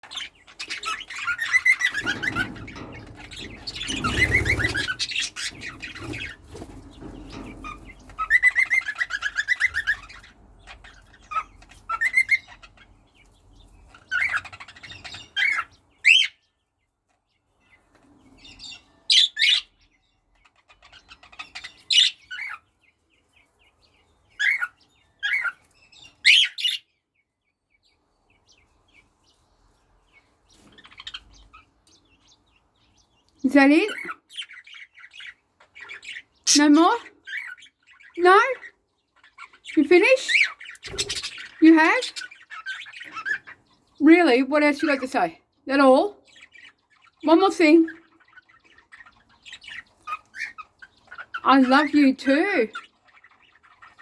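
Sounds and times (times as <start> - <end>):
birds chattering and whistling: 0.0 - 54.0.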